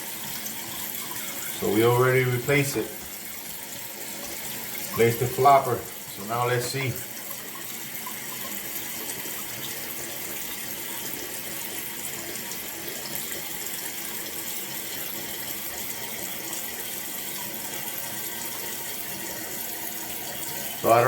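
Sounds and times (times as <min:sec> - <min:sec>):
toilet tank refilling: 0:00.0 - 0:21.0.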